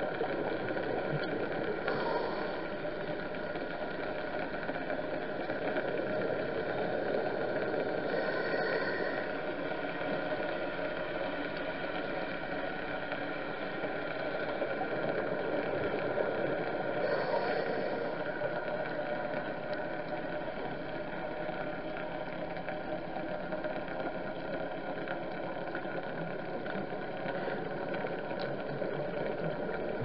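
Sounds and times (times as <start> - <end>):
boat engine drone underwater: 0.0 - 30.0.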